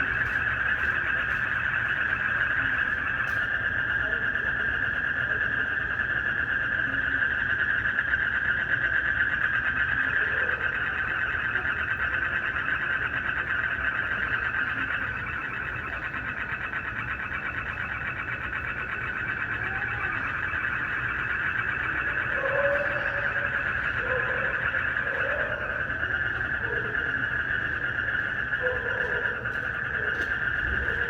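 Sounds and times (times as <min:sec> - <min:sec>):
frogs and crickets trilling: 0:00.0 - 0:31.0.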